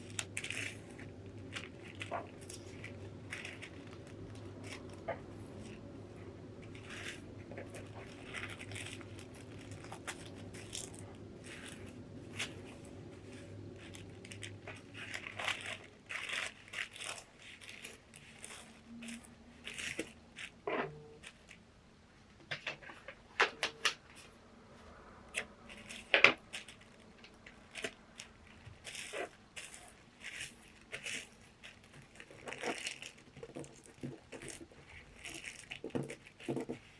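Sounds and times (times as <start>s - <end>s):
paper rustling and tearing: 0.0s - 21.6s, 25.3s - 36.9s
low steady hum: 0.0s - 36.9s.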